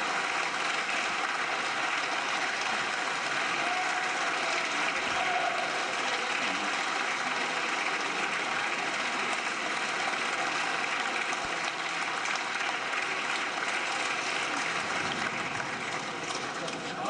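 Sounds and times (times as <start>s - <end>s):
crowd applause: 0.0s - 17.0s.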